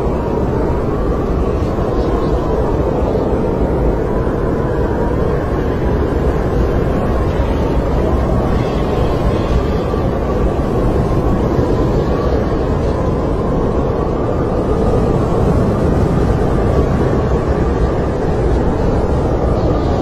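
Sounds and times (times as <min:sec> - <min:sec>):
faint wind whistle: 0:00.0 - 0:20.0
snowstorm wind with deep rumble: 0:00.0 - 0:20.0.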